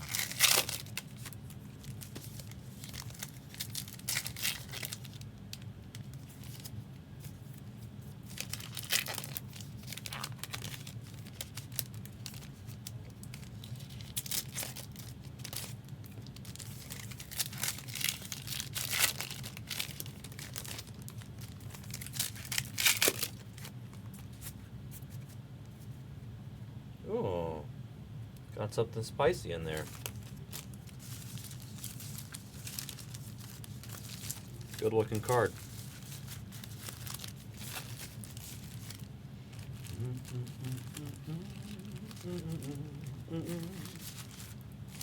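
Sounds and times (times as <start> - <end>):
foil wrappers tearing and crinkling: 0.0 - 24.5, 29.7 - 45.0
steady low hum: 0.0 - 45.0.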